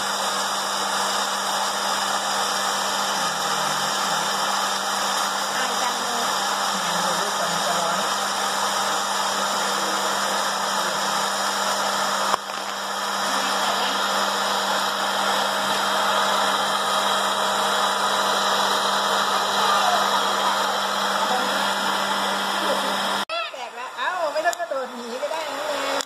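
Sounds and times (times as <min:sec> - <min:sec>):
fan blowing hot air: 0:00.0 - 0:23.3, 0:24.0 - 0:26.0
low motor hum: 0:00.0 - 0:23.3.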